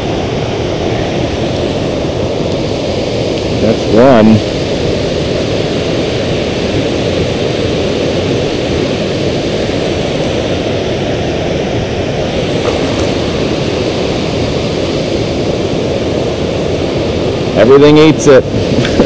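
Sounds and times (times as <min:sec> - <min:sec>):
river water pouring over spillway: 0:00.0 - 0:19.0.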